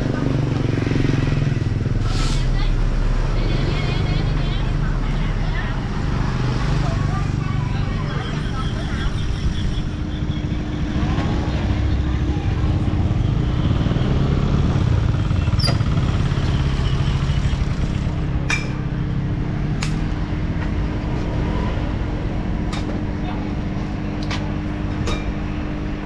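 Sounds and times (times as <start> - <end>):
engine running with low rumble: 0.0 - 26.0.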